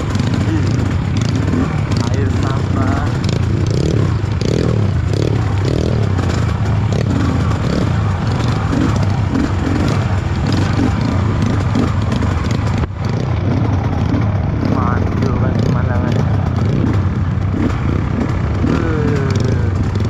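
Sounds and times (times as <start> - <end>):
motorcycle engine running: 0.0 - 20.0
rattling and scraping: 0.0 - 20.0.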